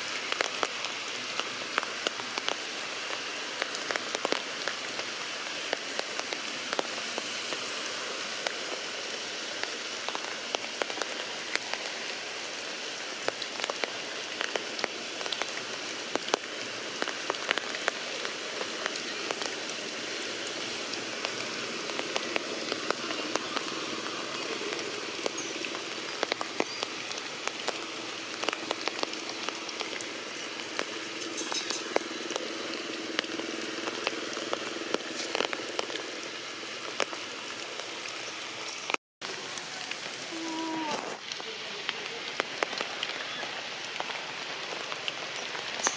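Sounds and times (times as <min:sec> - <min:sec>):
heavy rain falling: 0:00.0 - 0:45.9
raindrops pattering and dripping: 0:00.0 - 0:45.9.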